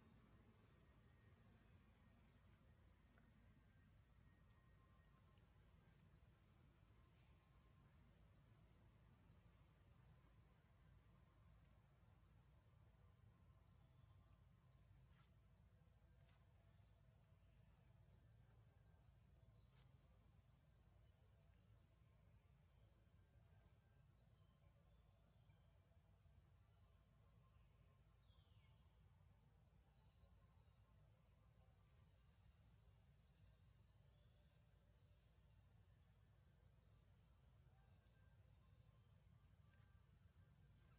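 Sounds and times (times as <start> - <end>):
high-pitched insect chorus: 0.0 - 40.9
repeating insect chirp: 0.0 - 40.9.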